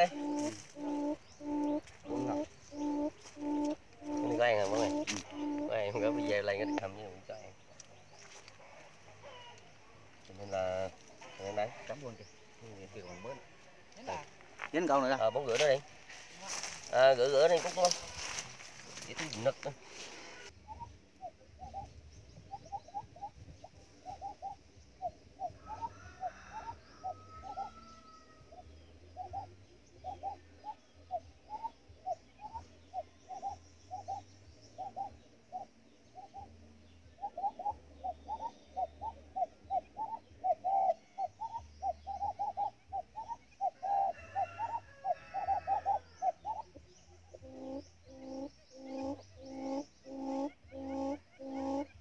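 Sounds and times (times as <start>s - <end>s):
quail calling: 0.0s - 52.0s.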